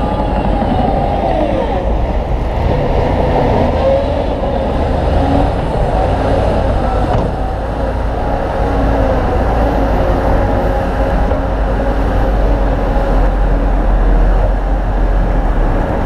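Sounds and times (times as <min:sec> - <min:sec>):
diesel machinery engine rumble: 0:00.0 - 0:16.0.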